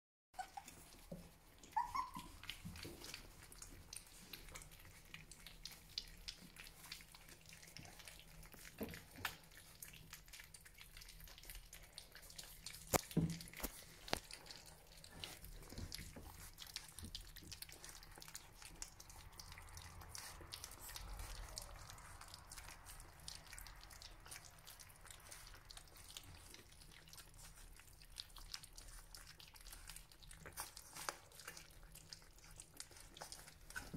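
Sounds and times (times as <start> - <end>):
puppies lapping food: 0.4 - 33.9.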